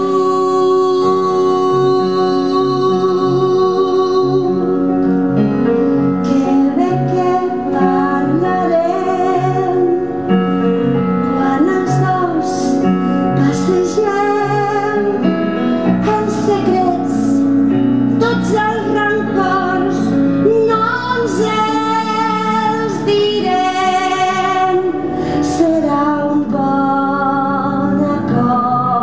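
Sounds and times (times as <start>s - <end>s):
piano accompaniment: 0.0s - 29.0s
woman singing: 0.0s - 29.0s.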